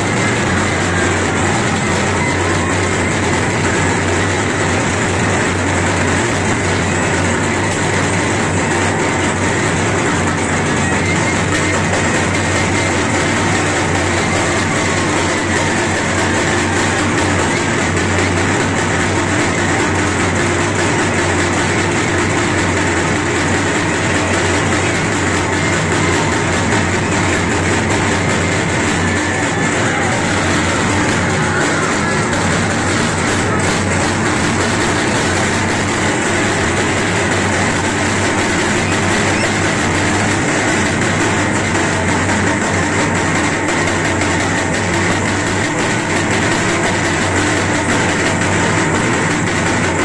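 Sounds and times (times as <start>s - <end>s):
distorted amplified music: 0.0s - 50.0s
festival crowd din: 0.0s - 50.0s.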